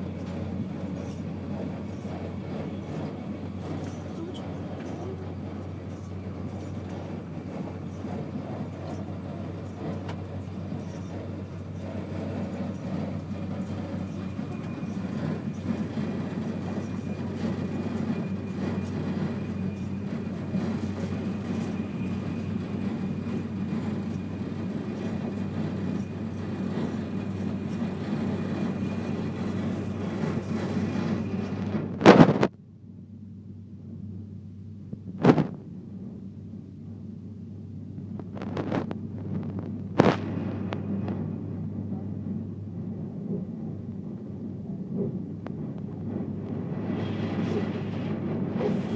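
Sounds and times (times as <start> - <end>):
train cabin rumble: 0.0 - 48.9.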